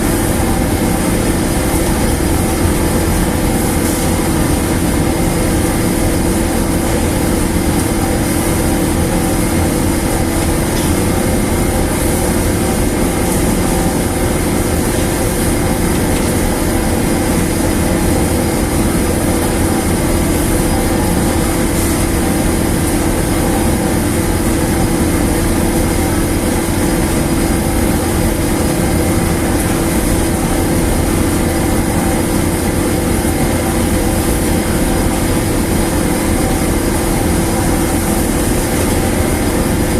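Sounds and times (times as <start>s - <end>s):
large machine humming: 0.0s - 39.9s.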